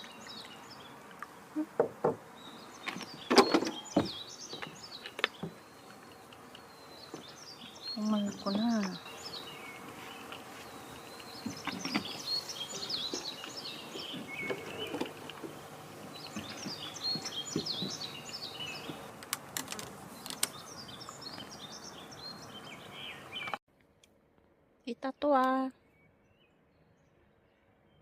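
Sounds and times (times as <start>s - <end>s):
small songbirds chirping: 0.0s - 23.6s.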